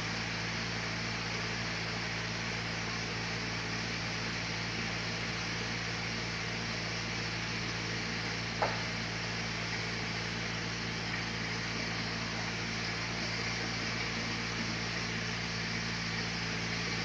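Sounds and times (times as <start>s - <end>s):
motor hum: 0.0s - 17.0s
steady machinery hiss: 0.0s - 17.0s.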